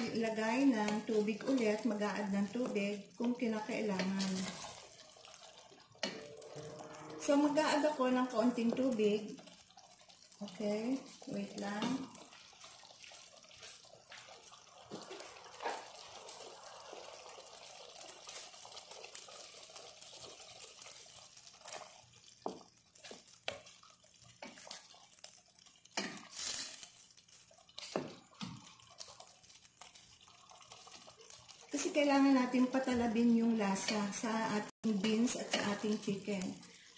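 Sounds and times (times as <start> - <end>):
water pouring into pot: 0.0 - 36.9.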